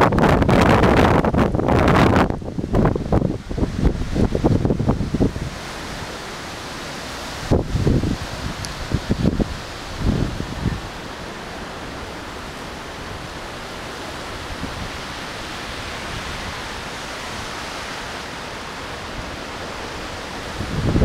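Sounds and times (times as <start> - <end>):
strong wind rushing: 0.0 - 6.2, 7.1 - 21.0
wind buffeting microphone: 0.0 - 6.4, 7.2 - 21.0.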